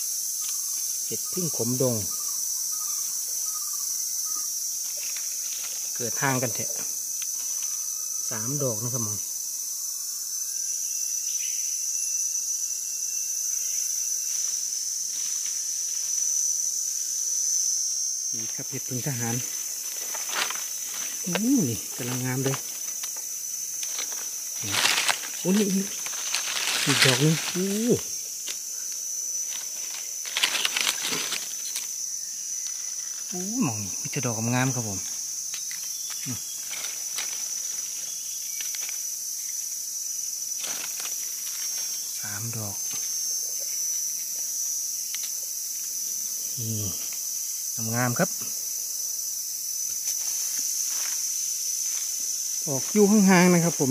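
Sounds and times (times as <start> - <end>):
forest insects droning: 0.0 - 53.9.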